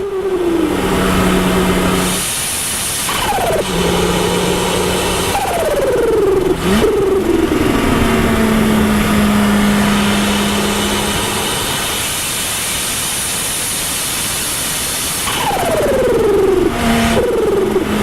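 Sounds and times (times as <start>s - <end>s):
car engine running hum: 0.0s - 18.0s.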